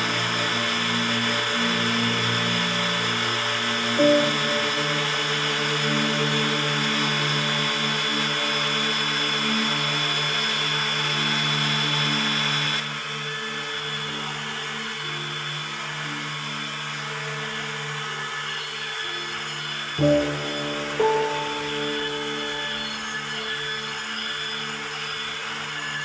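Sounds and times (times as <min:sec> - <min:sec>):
power tool motor whine: 0:00.0 - 0:26.0.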